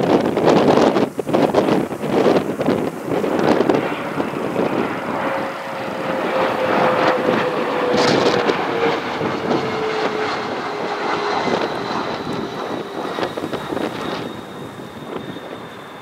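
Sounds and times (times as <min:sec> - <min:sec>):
jet engine whine: 0:00.0 - 0:16.0
wind buffeting microphone: 0:00.0 - 0:16.0.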